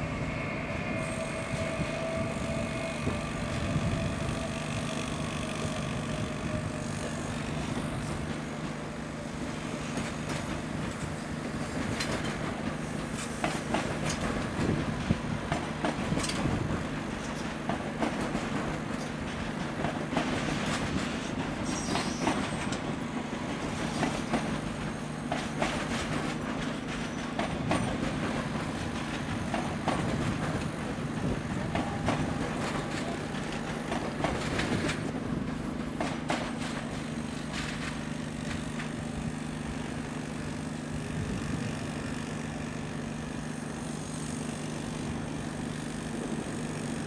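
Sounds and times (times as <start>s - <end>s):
steady low train hum: 0.0s - 47.0s
train wheels clicking over rail joints: 1.0s - 47.0s.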